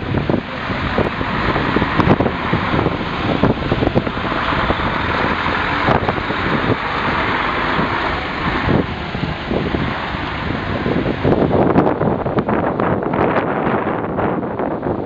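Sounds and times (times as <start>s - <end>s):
helicopter rotor and engine: 0.0s - 15.0s
wind buffeting microphone: 0.0s - 15.0s.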